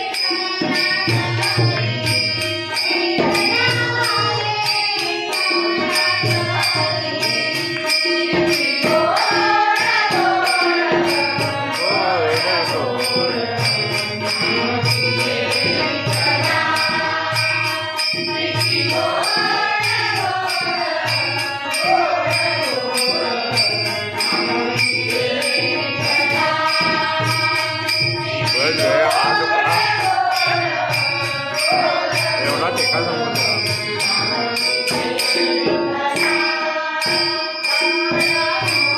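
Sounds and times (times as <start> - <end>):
harmonium: 0.0 - 38.9
jingling percussion: 0.0 - 38.9
women's group singing: 0.0 - 38.9.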